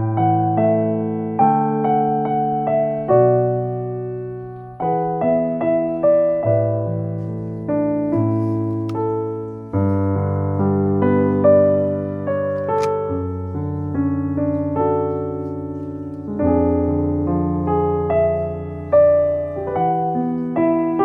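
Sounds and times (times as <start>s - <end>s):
gentle piano piece: 0.0s - 21.0s.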